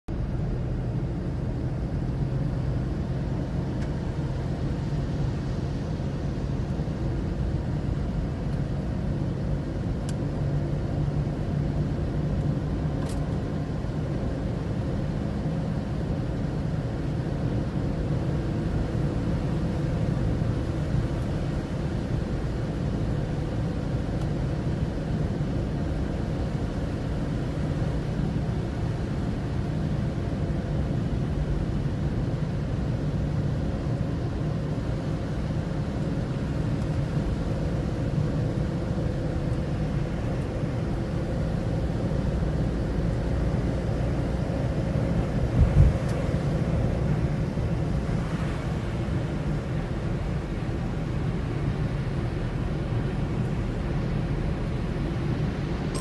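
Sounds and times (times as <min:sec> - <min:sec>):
car engine and tyres rumbling: 0:00.1 - 0:56.0.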